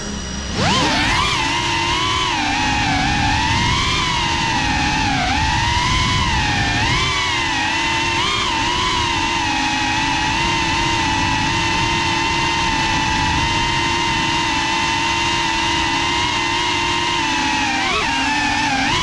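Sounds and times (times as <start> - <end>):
wind noise: 0.0 - 17.4
quadcopter motors whining: 0.0 - 19.0.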